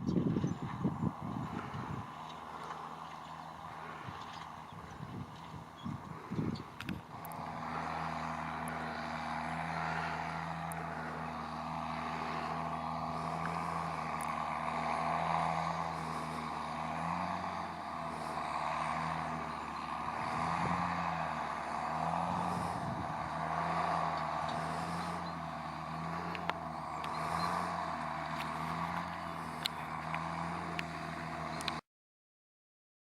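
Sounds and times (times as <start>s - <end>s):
tractor diesel engine running: 0.0s - 31.8s.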